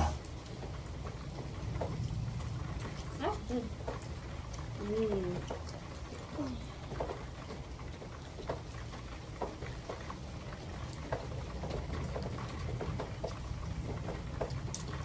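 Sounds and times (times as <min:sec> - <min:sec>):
small clicks and crackles: 0:00.0 - 0:15.0
steady rain falling: 0:00.0 - 0:15.0.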